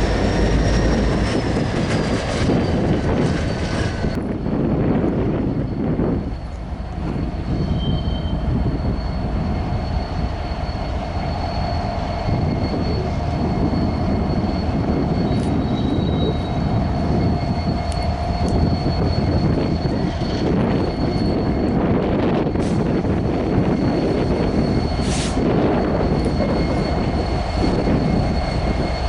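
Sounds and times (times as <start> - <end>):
freight train cars rumbling: 0.0 - 29.0
high-pitched whine: 0.0 - 29.0.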